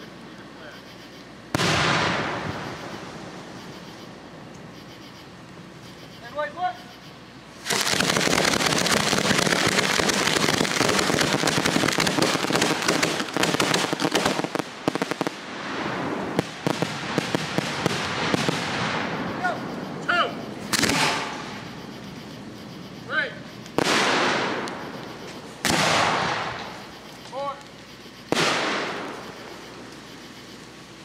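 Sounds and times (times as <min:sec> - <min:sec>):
fireworks crackling and banging: 0:00.0 - 0:06.7, 0:07.5 - 0:31.0.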